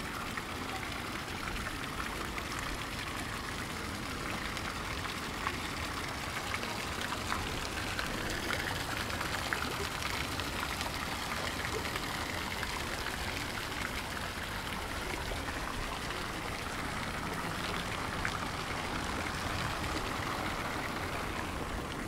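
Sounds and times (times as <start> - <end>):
raindrops ticking nearby: 0.0 - 22.0
steady rain: 0.0 - 22.0.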